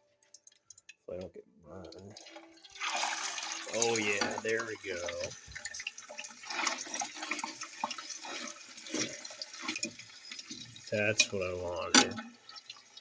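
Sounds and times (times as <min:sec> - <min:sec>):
steak sizzling in fat: 0:02.2 - 0:13.0.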